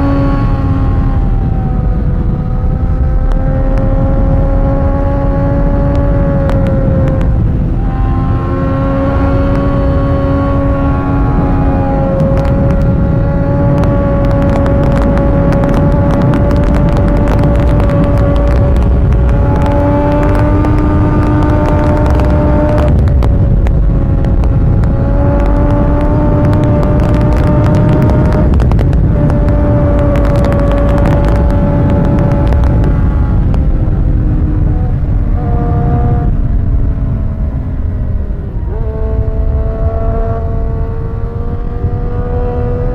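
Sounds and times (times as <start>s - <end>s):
motorcycle engine running hard: 0.0s - 42.9s
wind rumble on microphone: 0.0s - 42.9s.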